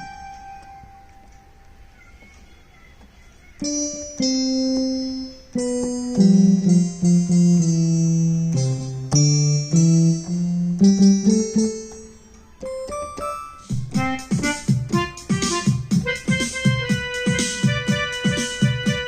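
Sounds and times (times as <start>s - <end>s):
keyboard playing held chords: 0.0s - 2.4s, 3.0s - 19.0s
keyboard accompaniment with beat: 0.0s - 19.0s.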